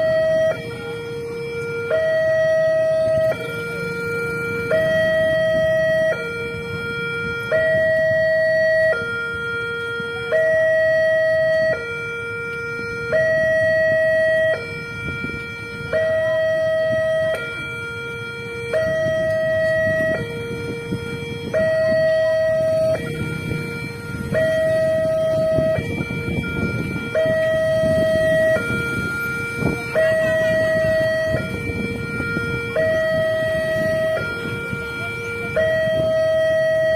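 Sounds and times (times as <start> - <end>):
two-tone warning siren: 0.0 - 36.9.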